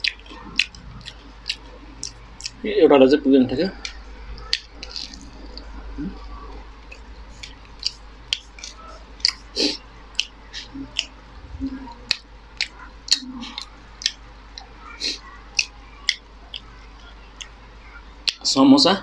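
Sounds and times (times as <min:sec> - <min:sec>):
person chewing with wet smacks: 0:00.0 - 0:02.6, 0:03.7 - 0:18.5.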